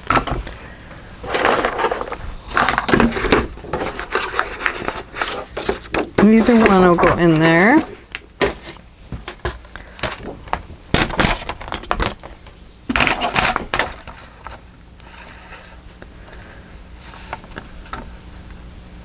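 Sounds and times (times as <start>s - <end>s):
paper rustling: 1.2s - 8.8s, 9.7s - 18.0s.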